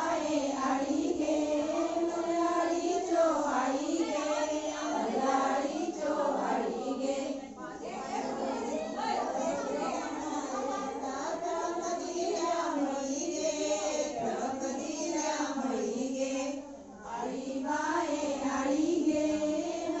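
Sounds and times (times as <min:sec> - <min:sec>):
women singing in chorus: 0:00.0 - 0:20.0.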